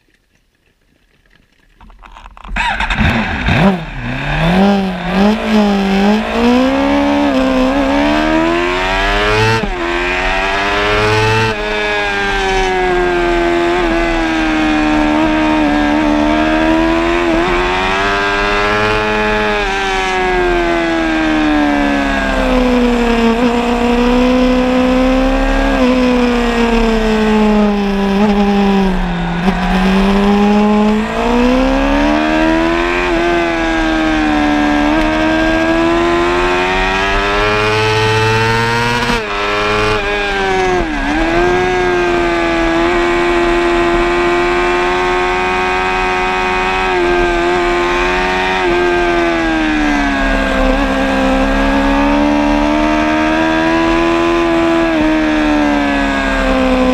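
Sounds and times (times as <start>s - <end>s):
motorcycle engine revving: 2.1s - 56.9s.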